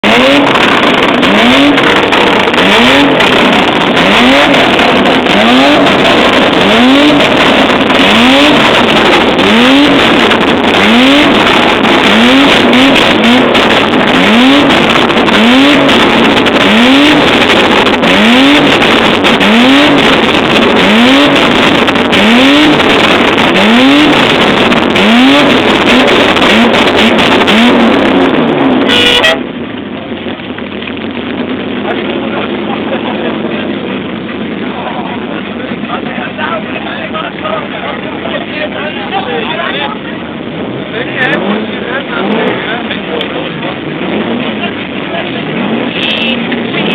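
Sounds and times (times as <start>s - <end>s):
exhaust pops and crackles: 0.0s - 46.9s
van engine revving: 0.0s - 46.9s.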